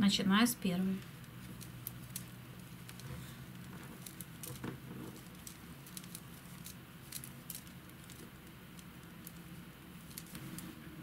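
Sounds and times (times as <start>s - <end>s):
yarn rustling: 0.7s - 11.0s
knitting needles clicking: 1.0s - 10.8s.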